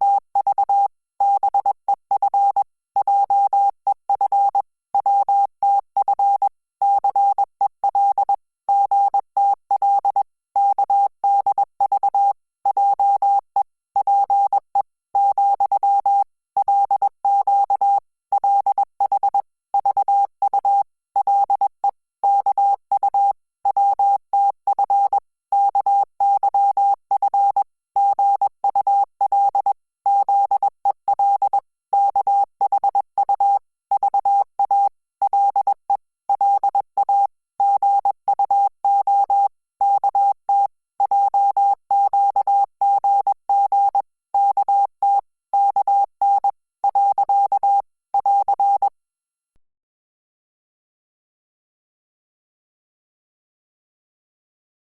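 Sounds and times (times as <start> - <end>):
morse code beeps: 0.0 - 48.9.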